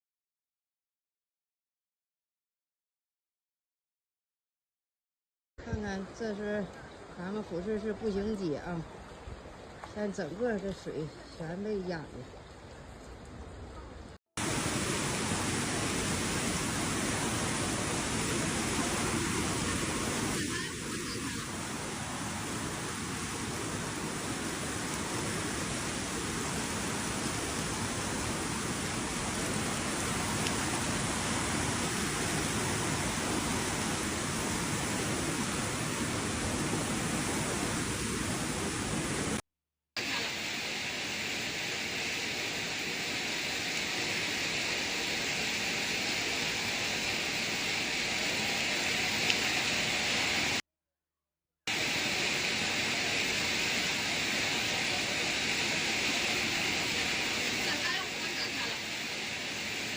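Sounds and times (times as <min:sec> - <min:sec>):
heavy rain and floodwater hiss: 0:06.0 - 0:12.6, 0:14.1 - 0:39.4, 0:40.0 - 0:50.6, 0:51.7 - 0:59.9.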